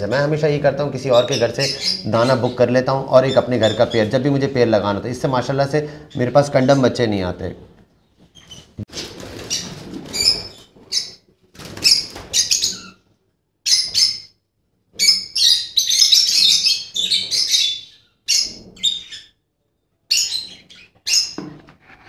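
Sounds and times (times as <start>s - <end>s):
lovebirds chirping and screeching: 0.6s - 7.1s, 8.0s - 11.2s, 11.8s - 13.0s, 13.7s - 14.4s, 15.0s - 19.4s, 20.1s - 22.0s.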